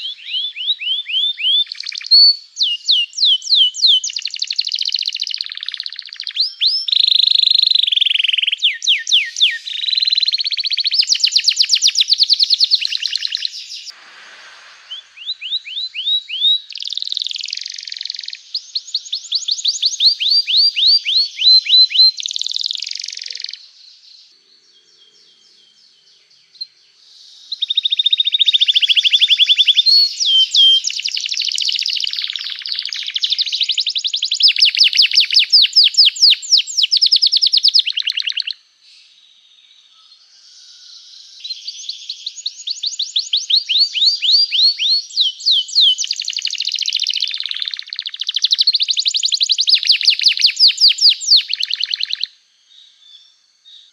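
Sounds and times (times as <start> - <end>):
canary singing: 0.0 - 14.0, 14.9 - 23.7, 27.5 - 38.6, 41.4 - 52.3.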